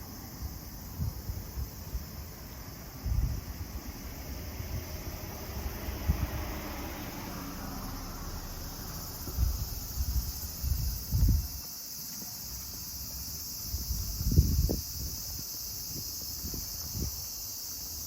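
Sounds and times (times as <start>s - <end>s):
steady high-pitched hiss: 0.0s - 18.0s.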